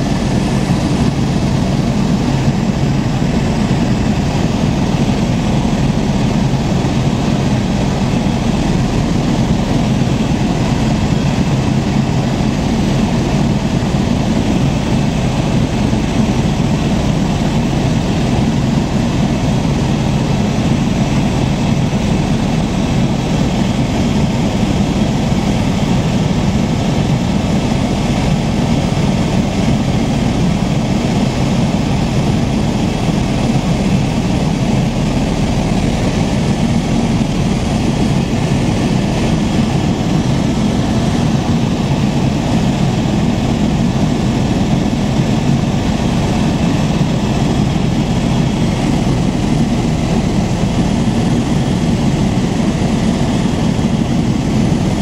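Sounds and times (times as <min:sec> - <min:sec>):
aircraft drone in flight: 0:00.0 - 0:55.0.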